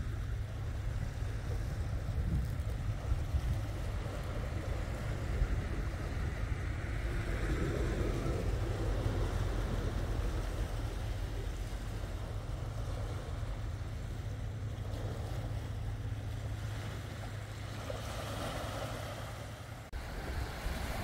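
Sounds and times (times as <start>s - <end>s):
low rumble: 0.0s - 18.0s
waves washing over rocks: 0.0s - 21.0s.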